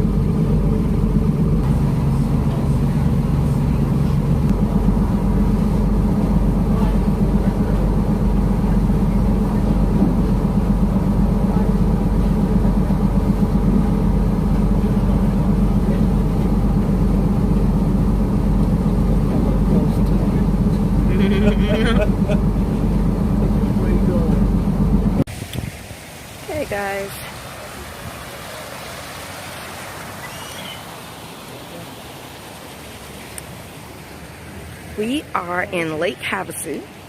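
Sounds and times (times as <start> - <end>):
boat diesel engines droning: 0.0 - 25.3, 26.2 - 37.0.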